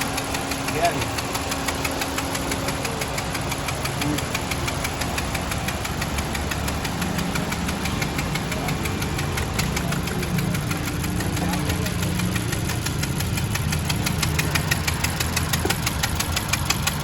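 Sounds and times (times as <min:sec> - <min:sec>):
car engine idling: 0:00.0 - 0:17.0
rapid even engine ticking: 0:00.0 - 0:17.0.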